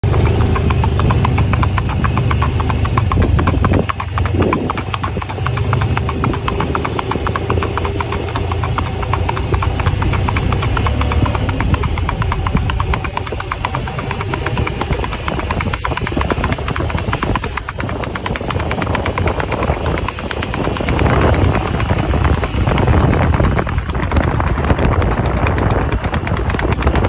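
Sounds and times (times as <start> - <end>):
hoofbeats on asphalt: 0.0 - 27.0
low engine hum: 0.0 - 27.0.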